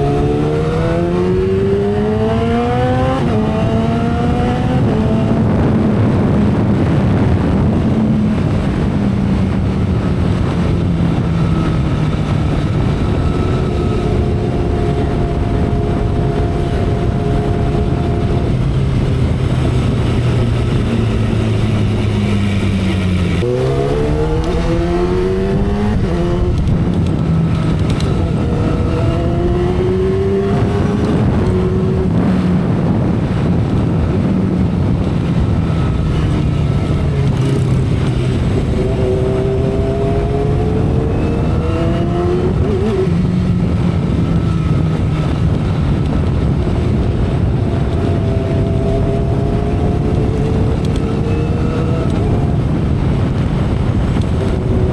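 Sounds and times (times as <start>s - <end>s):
motorcycle engine running: 0.0s - 54.9s
wind noise: 0.0s - 54.9s.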